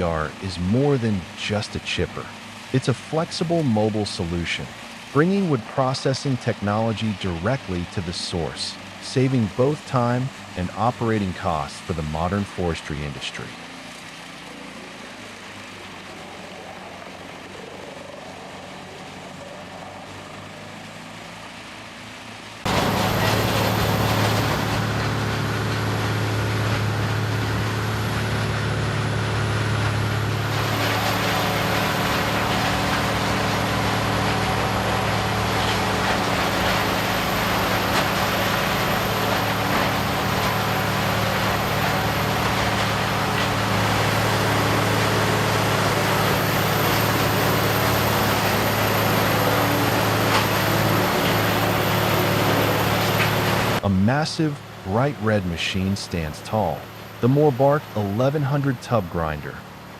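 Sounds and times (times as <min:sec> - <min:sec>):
wood-processing machine droning: 0:00.0 - 0:59.9.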